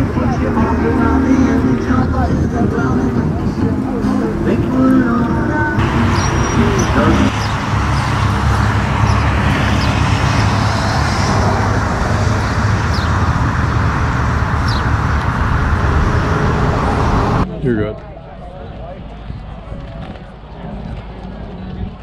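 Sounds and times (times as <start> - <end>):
car engine and exhaust rumble: 0.0 - 22.0
road noise: 0.0 - 22.0.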